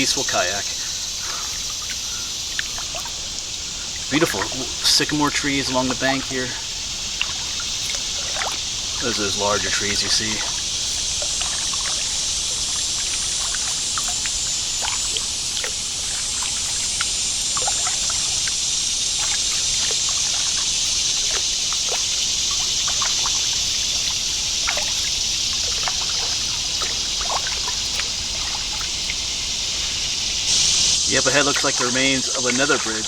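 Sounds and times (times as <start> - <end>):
flowing creek water: 0.0 - 33.0
paddle splashes and drips: 0.0 - 33.0.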